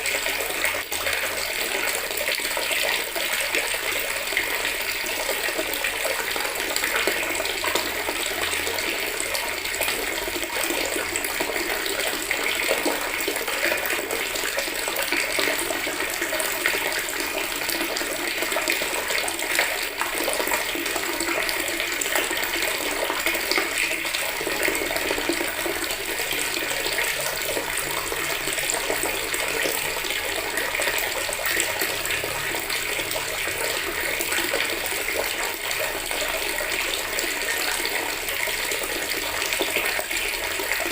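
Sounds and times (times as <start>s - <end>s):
tap water running into bucket: 0.0s - 40.9s.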